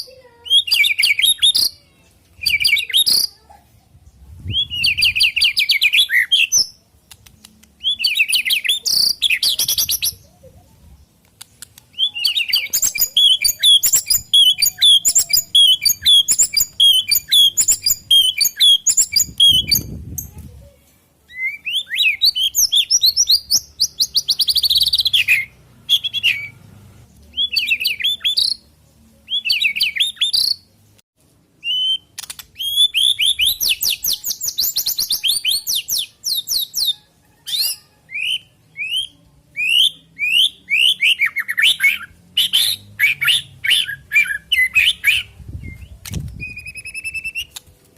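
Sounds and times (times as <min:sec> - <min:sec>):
bird singing whistled phrases: 0:00.4 - 0:01.8, 0:02.4 - 0:03.4, 0:04.4 - 0:06.8, 0:07.8 - 0:10.2, 0:11.9 - 0:20.2, 0:21.3 - 0:26.6, 0:27.3 - 0:28.6, 0:29.3 - 0:30.7, 0:31.6 - 0:47.6.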